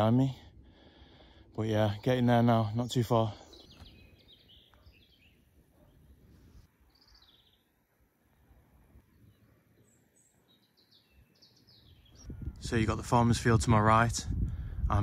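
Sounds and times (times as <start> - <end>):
faint distant bird chirps: 0.7 - 12.9.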